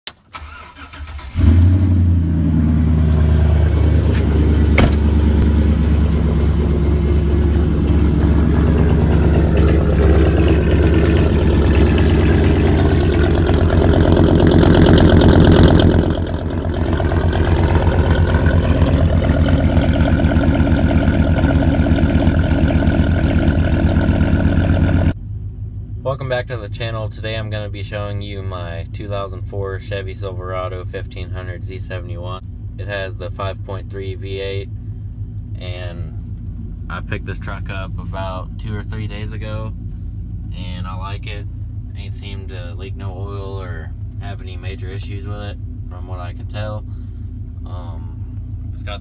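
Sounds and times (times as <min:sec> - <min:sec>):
truck engine starting and idling: 0:00.1 - 0:49.0.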